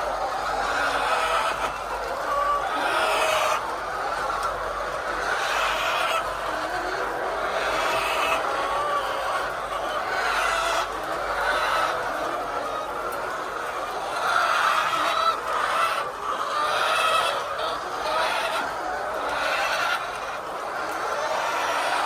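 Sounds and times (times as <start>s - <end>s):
hens clucking and squawking: 0.0s - 22.0s.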